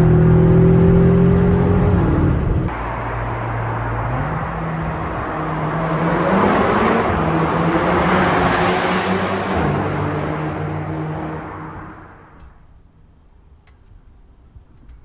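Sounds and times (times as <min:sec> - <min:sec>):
car engine running: 0:00.0 - 0:12.4
road and wind noise: 0:00.0 - 0:15.0.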